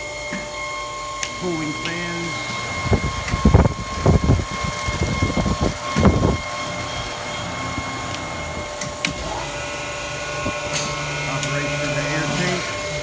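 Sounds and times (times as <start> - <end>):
machine humming and whining: 0.0 - 13.0.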